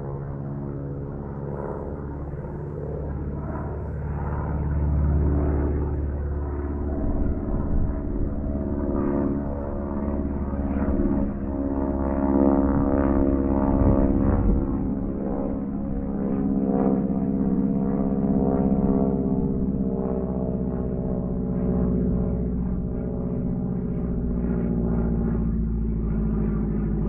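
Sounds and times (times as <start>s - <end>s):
model plane engine drone: 0.0s - 27.0s.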